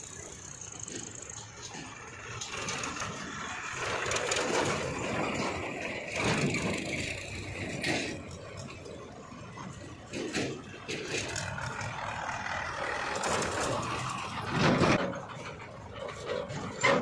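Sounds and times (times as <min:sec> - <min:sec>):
tractor diesel engine passing: 0:00.0 - 0:17.0.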